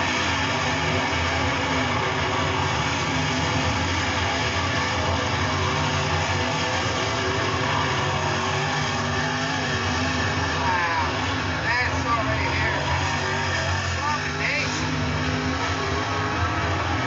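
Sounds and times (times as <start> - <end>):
race car engines roaring: 0.0 - 17.0.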